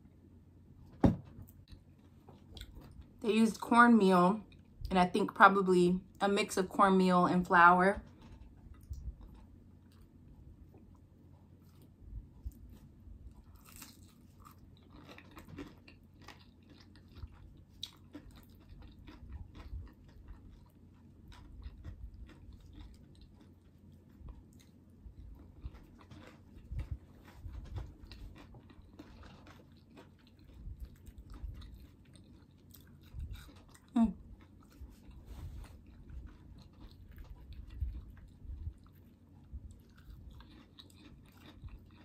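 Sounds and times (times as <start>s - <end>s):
chewing crunchy fried food: 1.5s - 5.1s, 8.0s - 42.0s.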